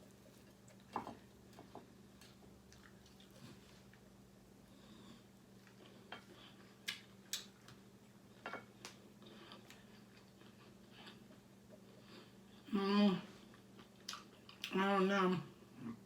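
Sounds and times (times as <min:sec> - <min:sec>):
chewing with crunching: 0:00.0 - 0:12.6, 0:13.4 - 0:14.8
low steady hum: 0:00.0 - 0:16.0.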